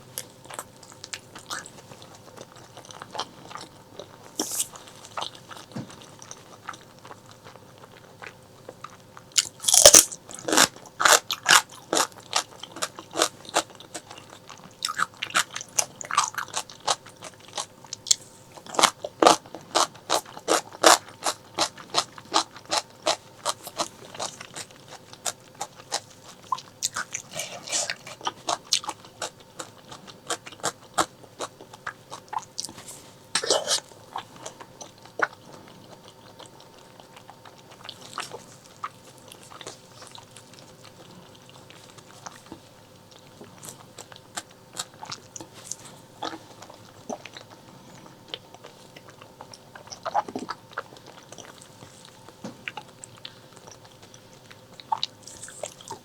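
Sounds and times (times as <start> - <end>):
chewing with clicky smacks: 0.0 - 56.0.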